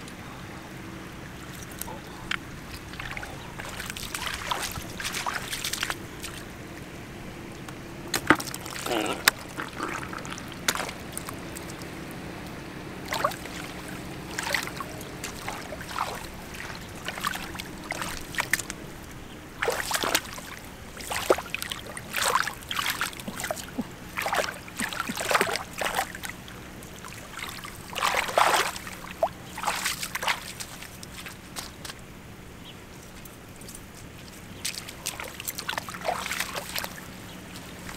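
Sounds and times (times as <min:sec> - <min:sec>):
hands splashing in muddy water: 0:01.5 - 0:06.5, 0:08.1 - 0:12.0, 0:13.0 - 0:18.8, 0:19.5 - 0:32.0, 0:33.6 - 0:37.9.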